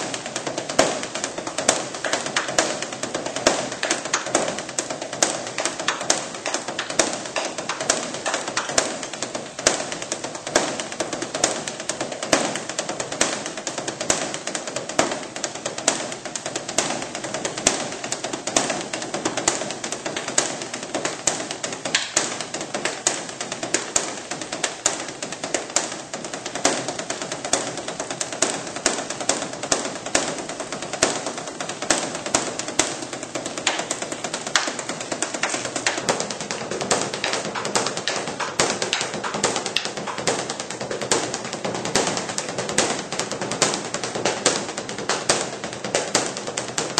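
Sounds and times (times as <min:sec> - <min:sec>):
drum beaten with wooden sticks: 0:00.0 - 0:46.9.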